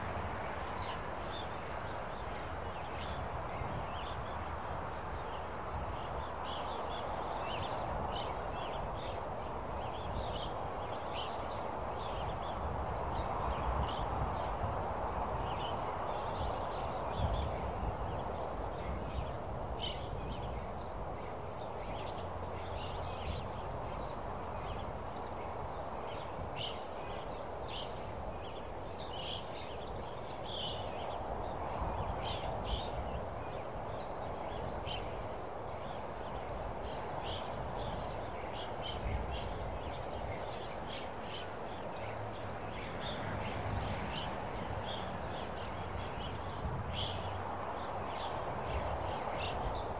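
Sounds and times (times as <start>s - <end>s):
rush of wind: 0.0s - 49.9s.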